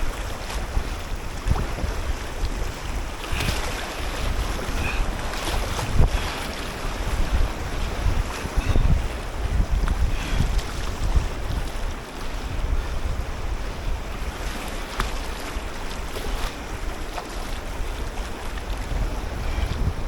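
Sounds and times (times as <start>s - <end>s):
river water rushing and splashing: 0.0s - 20.0s
wind rumbling on microphone: 0.0s - 20.0s.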